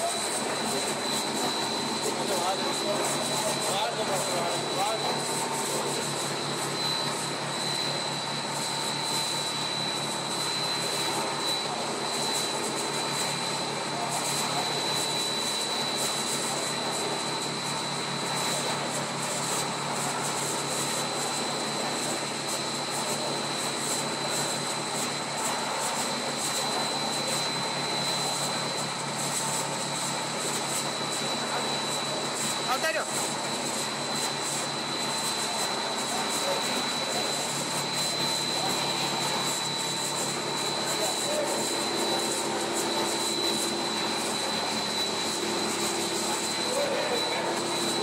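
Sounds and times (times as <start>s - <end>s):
machine drone with high whine: 0.0s - 48.0s.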